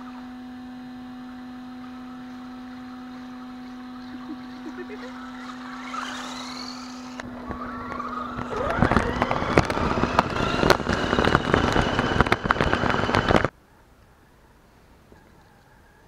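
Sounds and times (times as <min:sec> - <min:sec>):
electric motor whining: 0:00.0 - 0:13.5.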